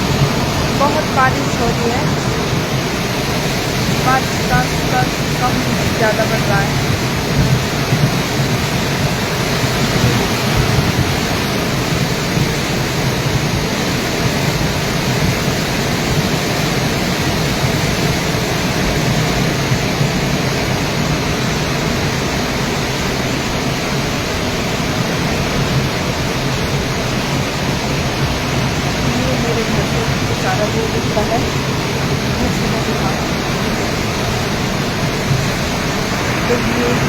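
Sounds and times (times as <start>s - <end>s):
floodwater rushing in stream: 0.0s - 37.0s.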